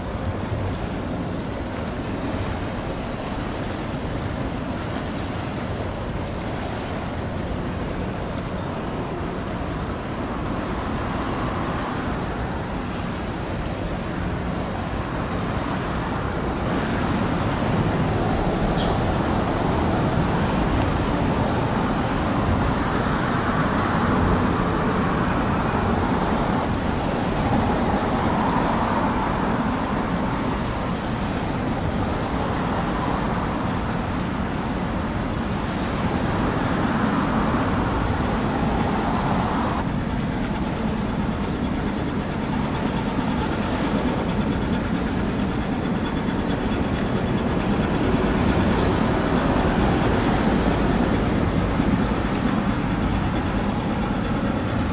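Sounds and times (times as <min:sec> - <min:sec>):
traffic rumble: 0:00.0 - 0:54.9.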